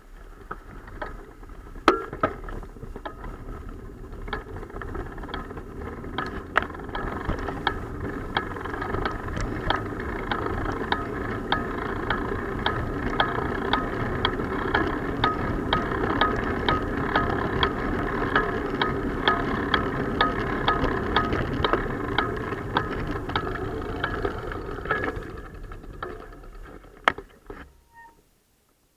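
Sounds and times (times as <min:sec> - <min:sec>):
wind and bicycle tyre noise: 0:00.0 - 0:28.2
light ticking: 0:04.1 - 0:27.6.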